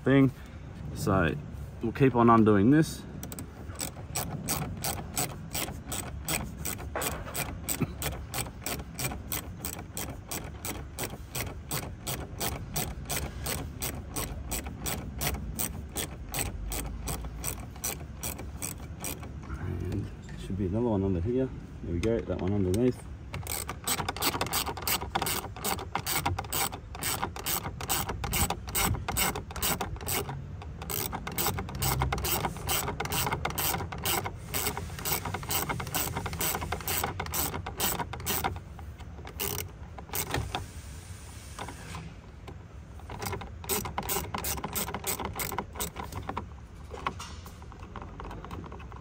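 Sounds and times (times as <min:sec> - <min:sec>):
ratchet wrench clicking: 0:03.2 - 0:19.4, 0:22.7 - 0:40.8, 0:41.6 - 0:49.0.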